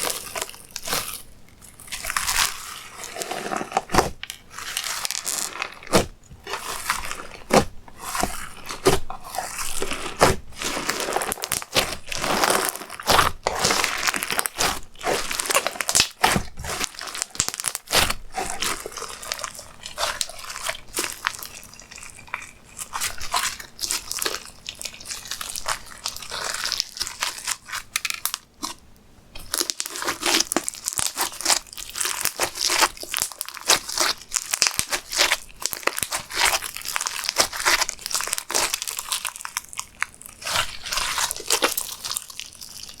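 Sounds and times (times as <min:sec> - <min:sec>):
hands squishing slime: 0:00.0 - 0:28.8, 0:29.4 - 0:43.0.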